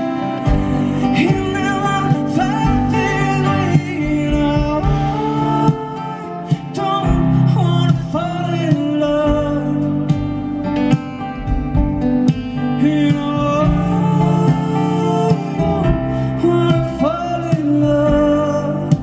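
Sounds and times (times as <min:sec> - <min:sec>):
person singing wordless melody: 0:00.0 - 0:10.9, 0:12.3 - 0:19.0
acoustic guitar playing: 0:00.0 - 0:19.0.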